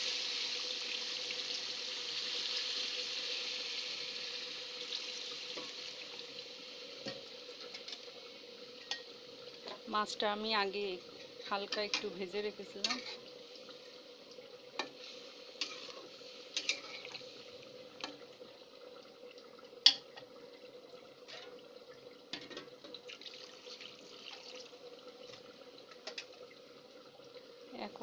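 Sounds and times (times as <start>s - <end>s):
curry bubbling in a metal pot: 0.0s - 28.0s.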